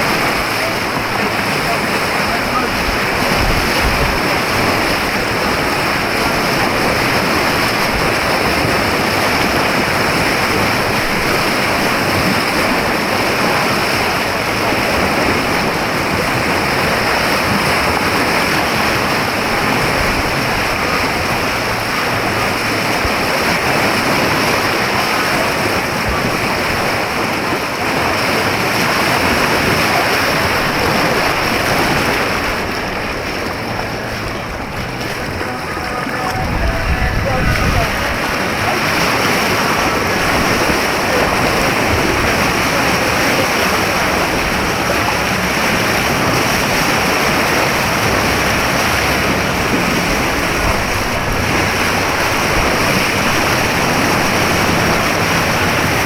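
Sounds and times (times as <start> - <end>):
churning white water: 0.0 - 56.0.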